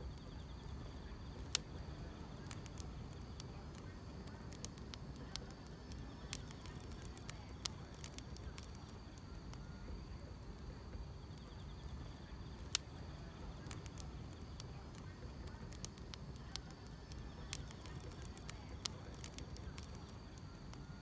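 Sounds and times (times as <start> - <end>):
fire popping: 0.0 - 21.0
insects trilling: 0.0 - 21.0
wood fire crackling: 0.0 - 21.0.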